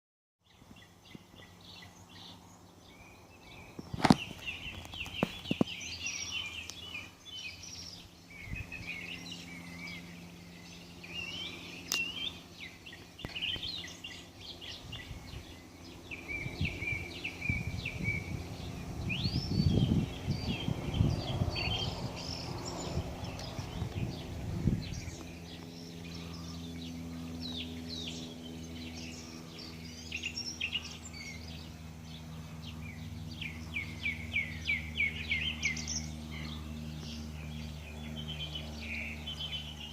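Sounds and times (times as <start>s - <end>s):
songbirds chirping and trilling: 0.4s - 39.9s
low rumbling: 1.6s - 39.9s.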